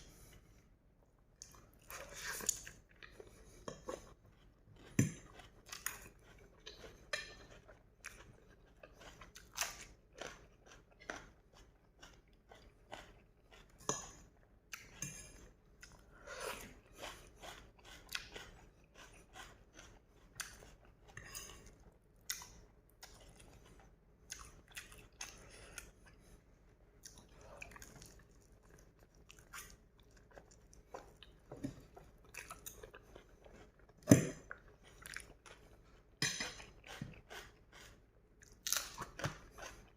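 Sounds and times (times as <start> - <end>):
person chewing noodles: 0.1 - 39.9.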